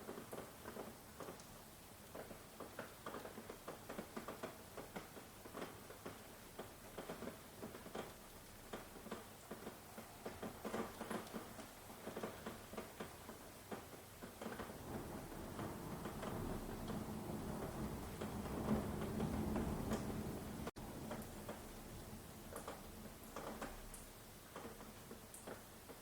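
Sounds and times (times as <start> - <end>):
large raindrops tapping: 0.0 - 26.0
rain hiss: 0.0 - 26.0.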